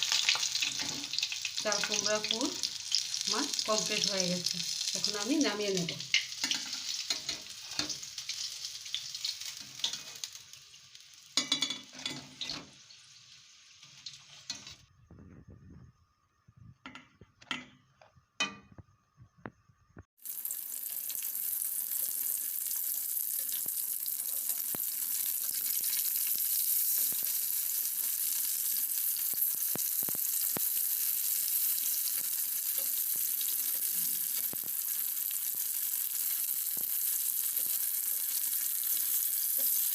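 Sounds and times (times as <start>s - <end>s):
battered vegetables deep-frying in oil: 0.0s - 14.9s, 20.2s - 39.9s.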